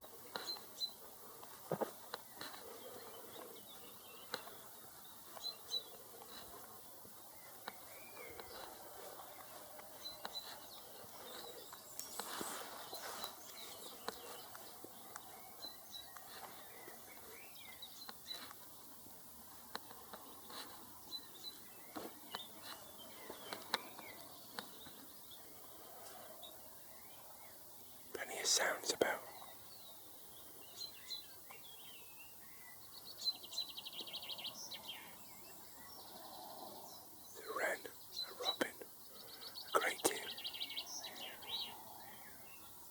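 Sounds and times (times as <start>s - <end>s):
wren trilling song: 0.0s - 18.7s, 19.7s - 42.9s
small birds chirping: 0.0s - 42.9s.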